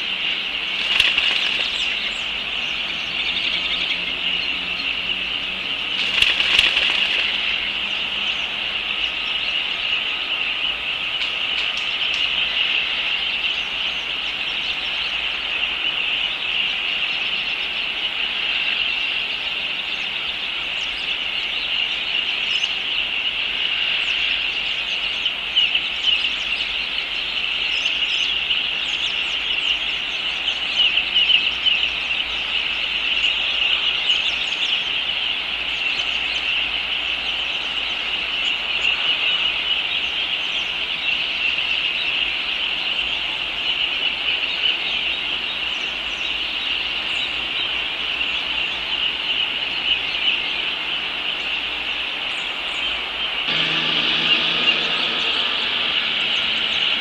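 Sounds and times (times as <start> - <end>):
wildlife chirring and chirping: 0.0 - 57.0.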